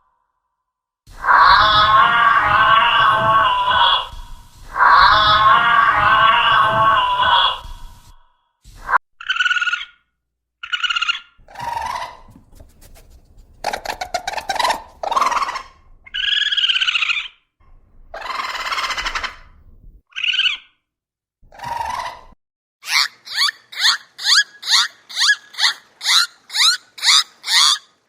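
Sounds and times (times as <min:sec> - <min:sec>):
animal calls and cries: 0:01.1 - 0:08.1, 0:10.6 - 0:17.4, 0:18.1 - 0:20.8, 0:21.5 - 0:28.0.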